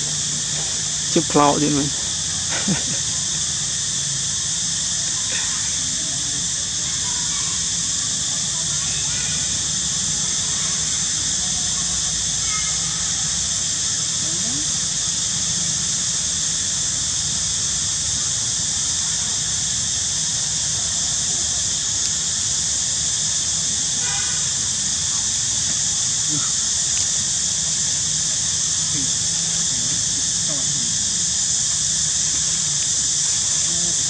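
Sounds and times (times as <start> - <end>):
steady high-pitched hiss: 0.0 - 34.0.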